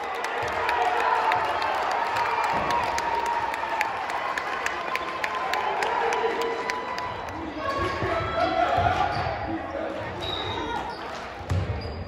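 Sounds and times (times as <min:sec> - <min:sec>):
crowd cheering and shouting: 0:00.0 - 0:11.8.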